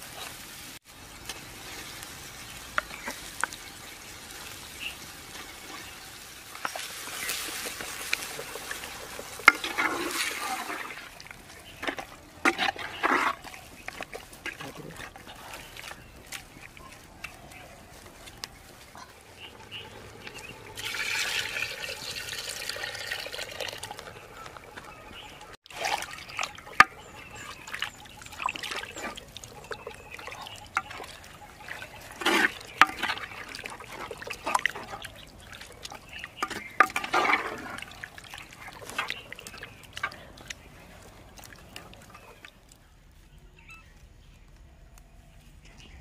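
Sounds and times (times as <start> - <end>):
squelching thick liquid: 0.0 - 46.0.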